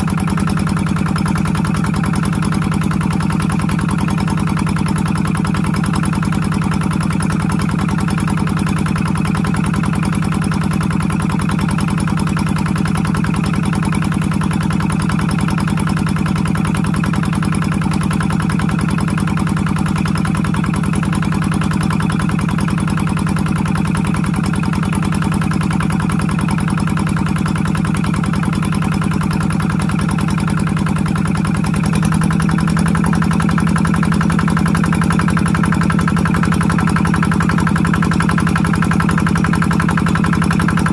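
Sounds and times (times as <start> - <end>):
water pump engine running: 0.0 - 40.9.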